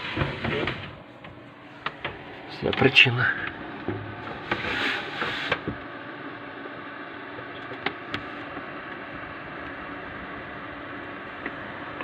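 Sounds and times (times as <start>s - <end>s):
computer fan whirring: 0.0s - 12.0s.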